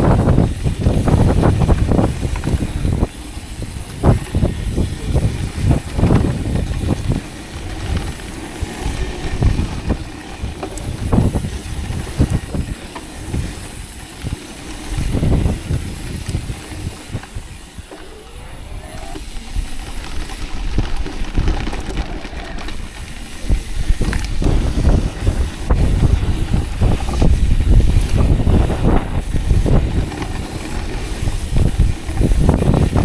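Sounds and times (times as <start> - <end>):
bike rattling over bumps: 0.0 - 33.0
bike tyres rolling on dirt: 0.0 - 33.0
wind rumble on microphone: 0.0 - 33.0.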